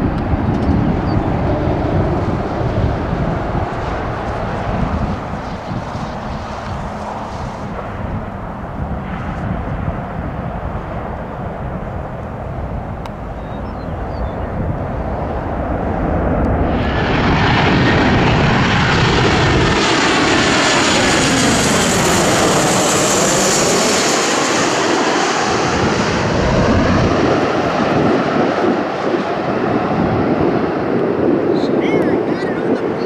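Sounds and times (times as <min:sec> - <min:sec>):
jet engines passing overhead: 0:00.0 - 0:33.0.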